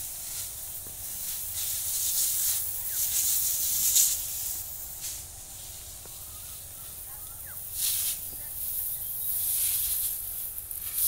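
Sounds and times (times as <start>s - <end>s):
spray pump hissing jet: 0.0s - 11.0s.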